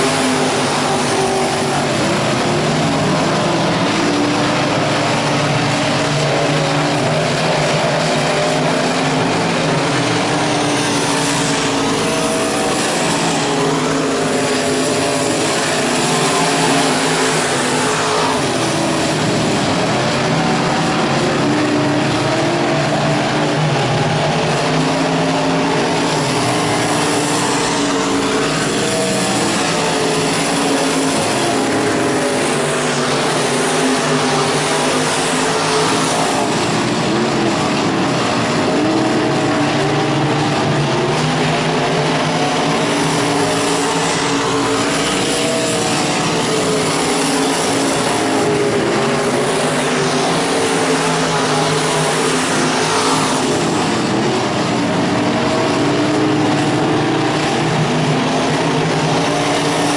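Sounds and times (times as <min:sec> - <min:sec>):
race car engines running hard: 0:00.0 - 0:59.9.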